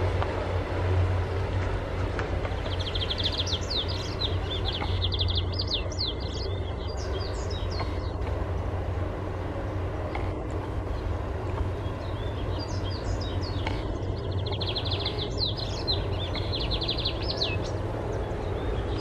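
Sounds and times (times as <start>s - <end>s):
train wagons rumbling past: 0.0s - 19.0s.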